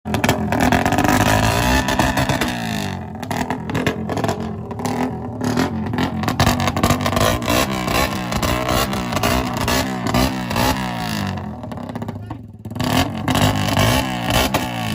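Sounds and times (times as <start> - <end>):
motorcycle engine revving: 0.1 - 14.9.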